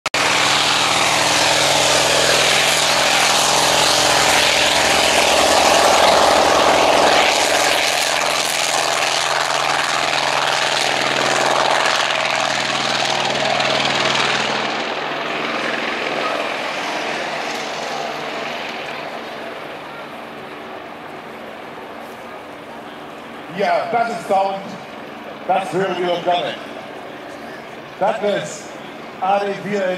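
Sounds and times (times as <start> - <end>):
propeller plane engine roaring: 0.1 - 29.9.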